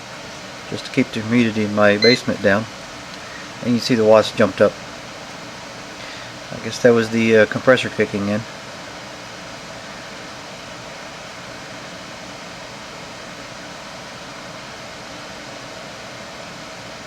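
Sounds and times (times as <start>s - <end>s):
dehumidifier fan whirring: 0.0s - 17.0s
faint compressor hum: 0.0s - 17.0s.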